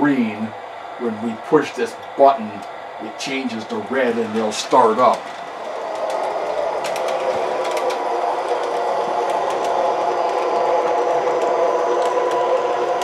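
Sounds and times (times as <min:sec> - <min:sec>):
model streetcar motors whirring: 0:00.0 - 0:13.0.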